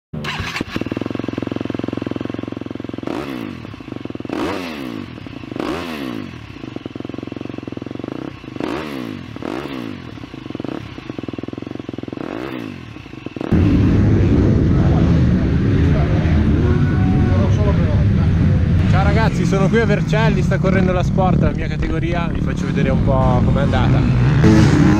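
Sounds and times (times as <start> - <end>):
motocross bikes revving: 0.2 - 24.9.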